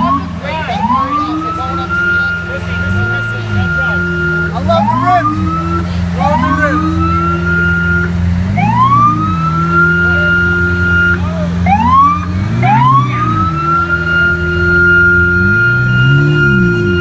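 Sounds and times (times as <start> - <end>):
low engine rumble: 0.0 - 17.0
police siren wailing: 0.0 - 17.0.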